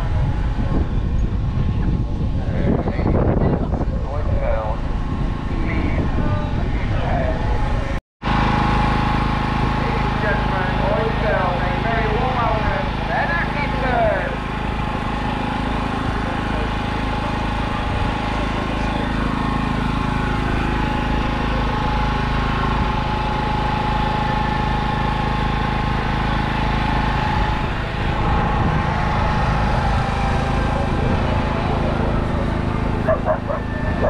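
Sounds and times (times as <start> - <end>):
engine idling: 0.0 - 34.0
mid-pitched whine: 0.0 - 34.0.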